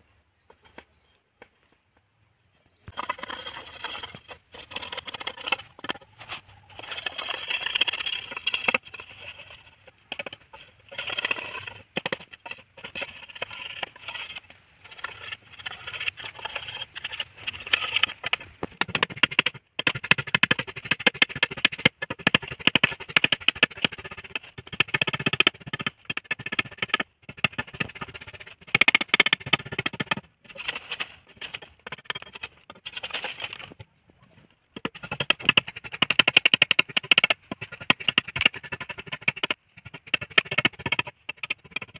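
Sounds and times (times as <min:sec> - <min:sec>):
blade shaving bamboo: 0:02.9 - 0:33.8, 0:34.8 - 0:41.9.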